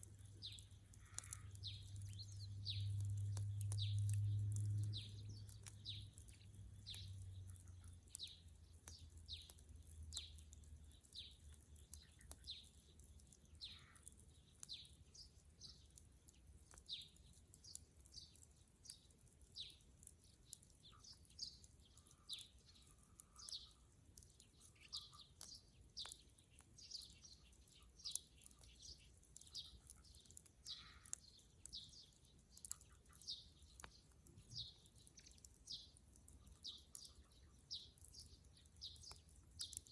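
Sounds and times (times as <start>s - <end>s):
bird chirping: 0.0s - 39.9s
wood fire crackling: 0.0s - 39.9s.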